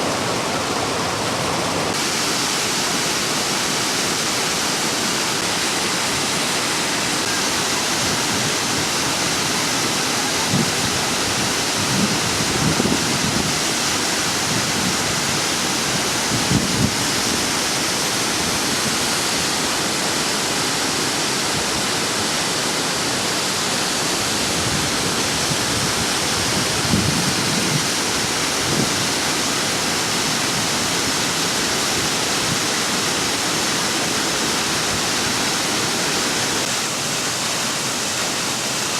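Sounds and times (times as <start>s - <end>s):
water rushing loudly: 0.0s - 38.9s.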